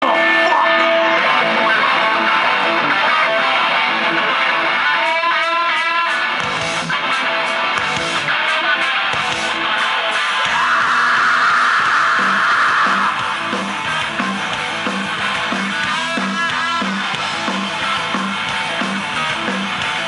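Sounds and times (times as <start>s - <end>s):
electric guitar pitch bends: 0.0s - 20.0s
rock band playing: 0.0s - 20.0s.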